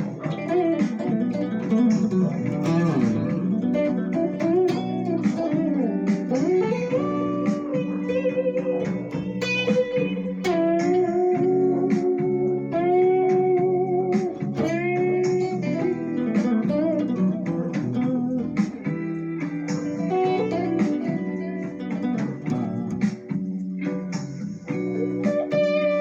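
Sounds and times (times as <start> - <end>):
guitar playing: 0.0 - 26.0.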